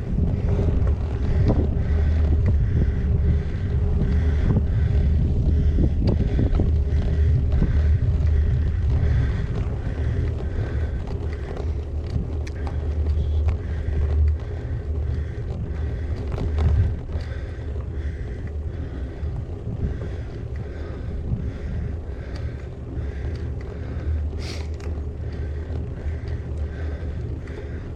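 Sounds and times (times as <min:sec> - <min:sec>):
bike clicks and rattles: 0:00.0 - 0:27.9
wind buffeting microphone: 0:00.0 - 0:27.9.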